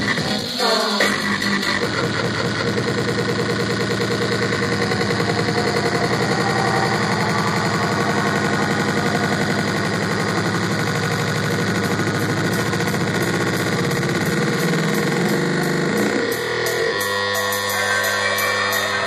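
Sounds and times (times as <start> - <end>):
fast stuttering pulse: 0.0 - 19.0
loud live music: 0.0 - 19.0.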